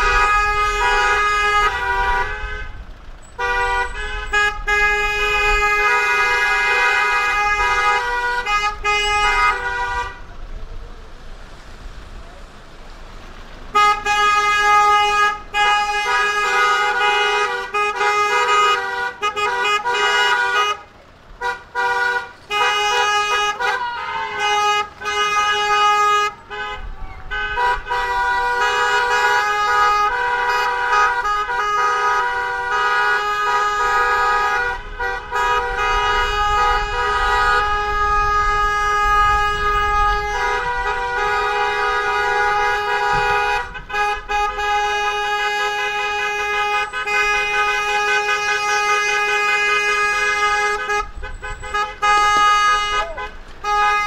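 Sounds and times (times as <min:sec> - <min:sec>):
car horns honking: 0:00.0 - 0:54.0.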